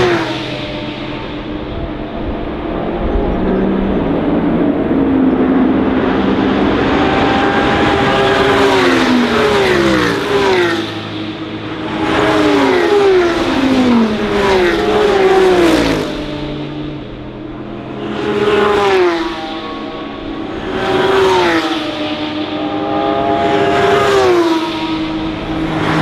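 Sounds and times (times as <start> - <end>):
race cars passing at speed: 0.0 - 26.0.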